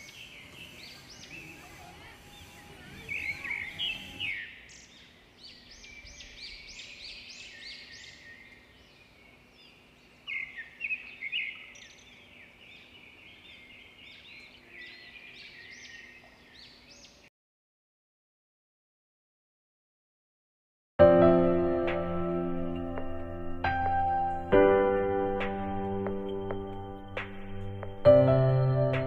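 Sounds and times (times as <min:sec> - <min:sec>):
birds chirping: 0:00.0 - 0:17.3, 0:22.4 - 0:29.0.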